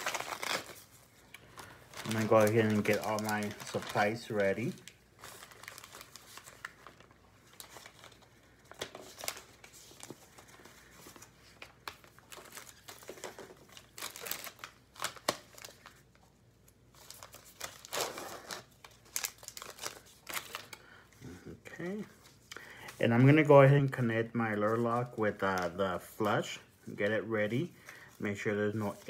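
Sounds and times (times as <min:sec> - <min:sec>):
wrappers crinkling and tearing: 0:00.0 - 0:29.0.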